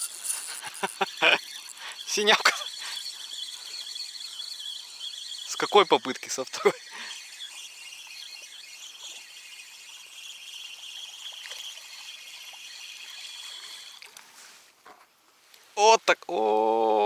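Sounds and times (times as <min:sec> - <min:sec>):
insects chirring: 0:00.0 - 0:14.2.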